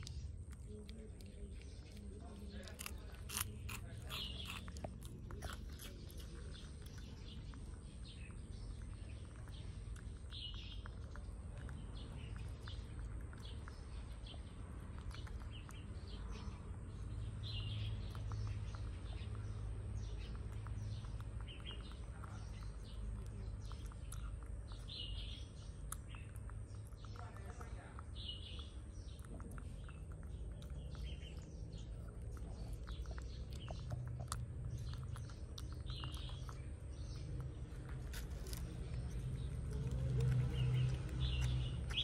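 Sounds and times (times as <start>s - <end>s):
monkey chewing and lip-smacking: 0.0s - 42.0s.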